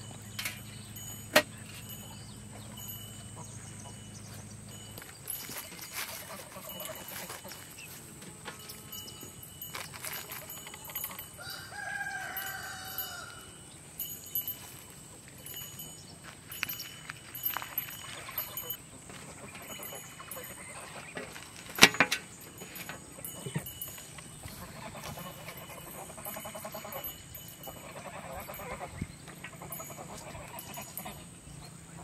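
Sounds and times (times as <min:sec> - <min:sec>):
farm animals calling: 0:00.0 - 0:32.0.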